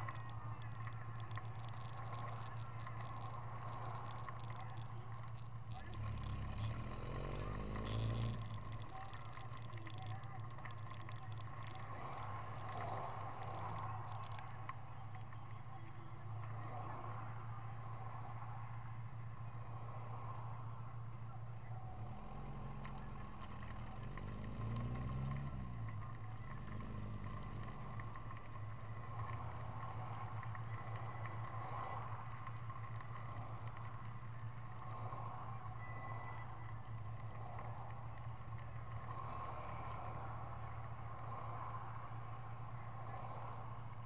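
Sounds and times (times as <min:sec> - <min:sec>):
low engine hum: 0:00.0 - 0:44.0
vehicle passing: 0:00.0 - 0:44.0.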